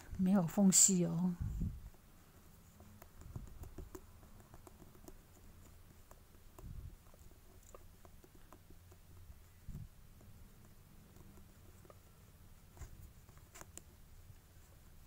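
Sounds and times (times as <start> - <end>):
low steady hum: 0.0 - 15.0
light clicks and soft bumps: 1.3 - 15.0.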